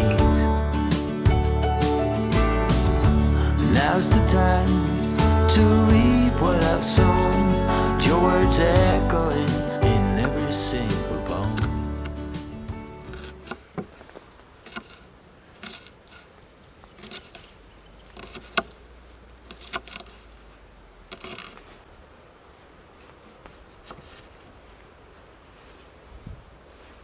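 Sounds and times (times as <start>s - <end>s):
faint outdoor background noise: 0.0s - 27.0s.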